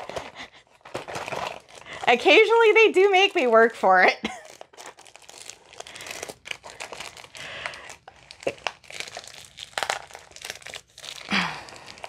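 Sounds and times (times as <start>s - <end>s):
cardboard packaging crinkling: 0.0s - 12.0s.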